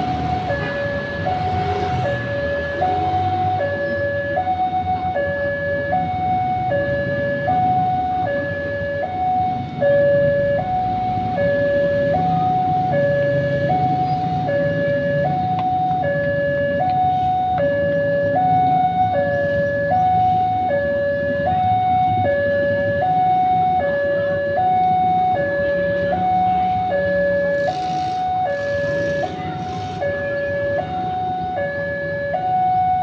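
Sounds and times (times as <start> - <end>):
level crossing two-tone alarm: 0.0 - 33.0.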